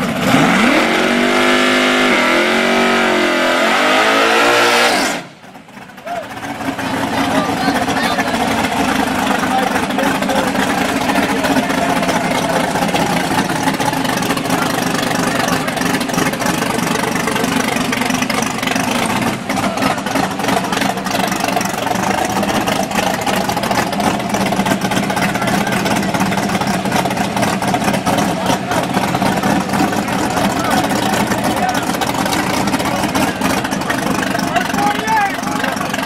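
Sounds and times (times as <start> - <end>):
car engine idling loudly: 0.0 - 36.0.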